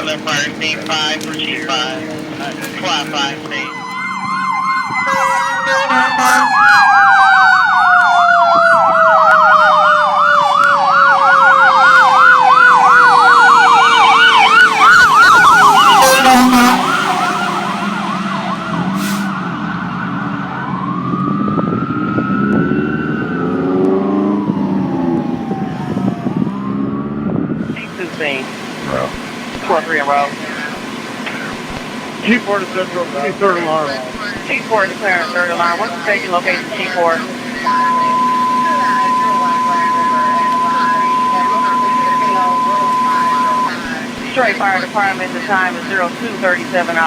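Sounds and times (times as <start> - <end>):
electronic siren yelp: 0.0 - 27.8, 35.2 - 46.2
siren wail: 0.0 - 28.0, 30.2 - 47.0
falling siren tone: 0.4 - 27.8, 35.2 - 46.2.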